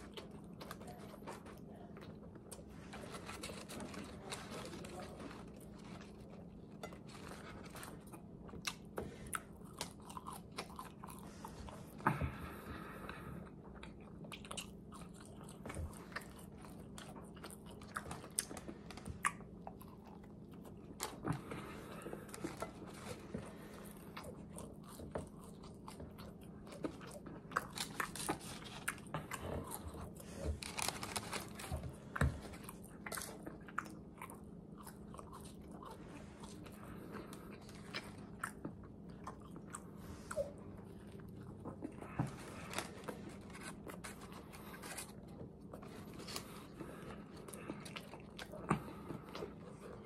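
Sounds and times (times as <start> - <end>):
person chewing food: 0.0 - 50.0.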